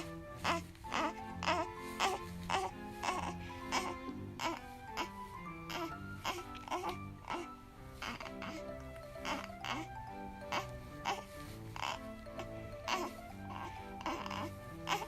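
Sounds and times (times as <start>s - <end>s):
baby crying: 0.0s - 15.0s
background music with steady beat: 0.0s - 15.0s.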